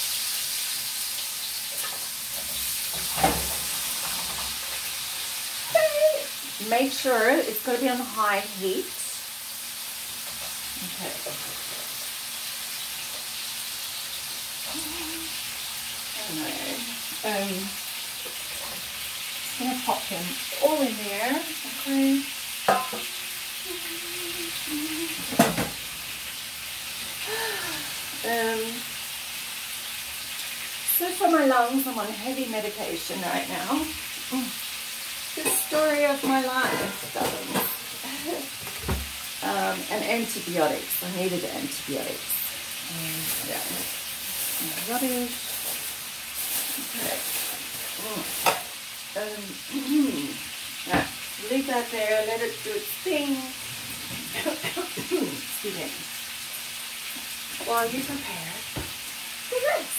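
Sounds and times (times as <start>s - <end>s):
oil sizzling in a pan: 0.0s - 59.9s.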